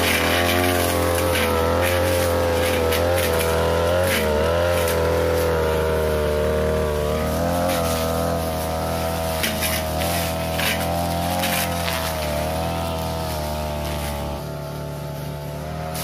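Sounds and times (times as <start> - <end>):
blade swishing through vegetation: 0.0 - 16.0
brush cutter engine running: 0.0 - 16.0.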